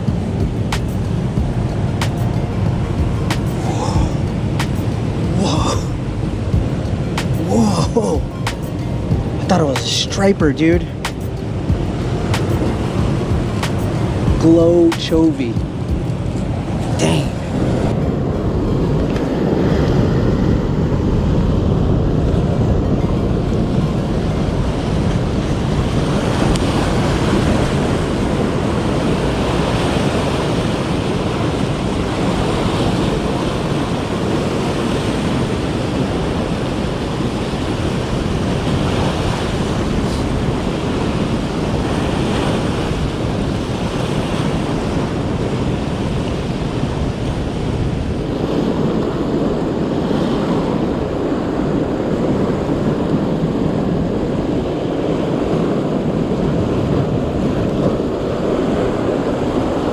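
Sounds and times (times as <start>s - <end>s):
surf breaking over rocks: 0.0s - 59.9s
wind on microphone: 0.0s - 59.9s.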